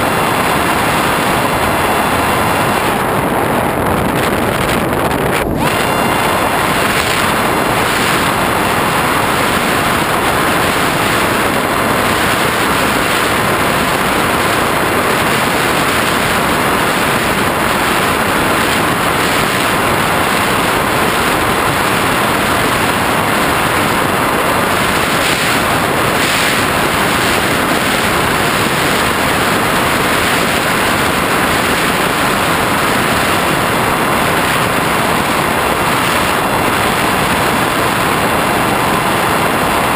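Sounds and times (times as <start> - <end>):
faint motor and propeller whine: 0.0 - 39.9
wind rushing over microphone: 0.0 - 39.9.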